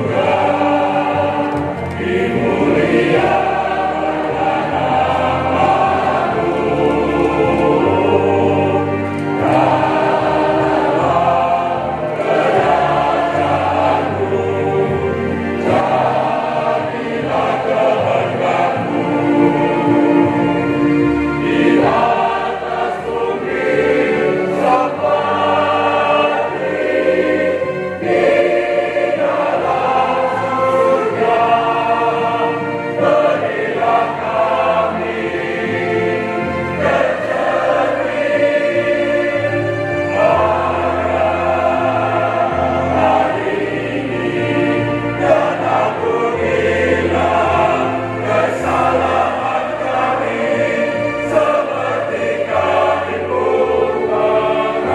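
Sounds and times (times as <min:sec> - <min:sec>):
mixed choir singing: 0:00.0 - 0:54.9.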